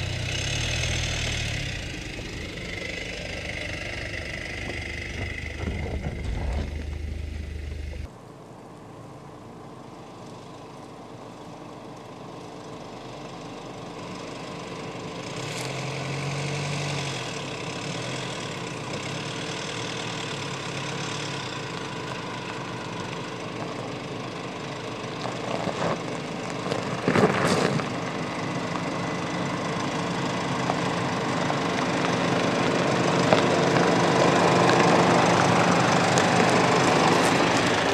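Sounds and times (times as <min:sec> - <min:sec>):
gravel crunching under tyres: 0:00.0 - 0:08.1, 0:10.1 - 0:37.9
car engine running slowly: 0:00.0 - 0:37.9.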